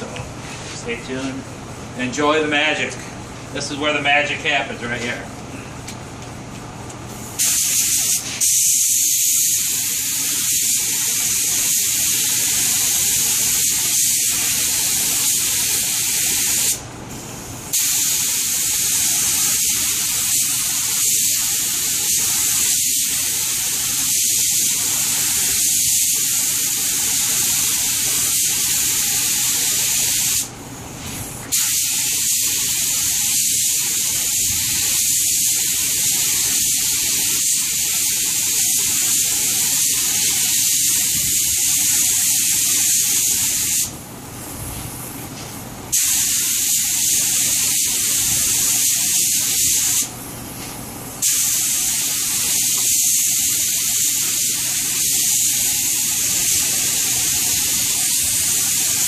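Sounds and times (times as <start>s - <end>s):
spray gun hissing: 7.2s - 16.8s, 17.7s - 44.0s, 45.9s - 50.1s, 51.2s - 59.0s.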